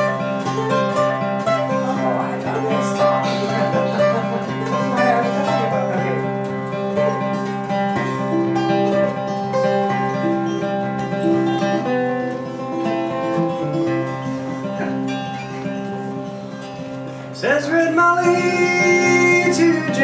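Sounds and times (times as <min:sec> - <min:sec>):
fingerpicked acoustic guitar: 0:00.0 - 0:20.0.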